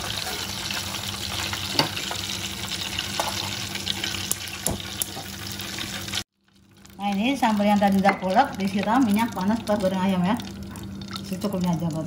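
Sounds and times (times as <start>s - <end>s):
hot oil sizzling and dripping: 0.0s - 12.0s.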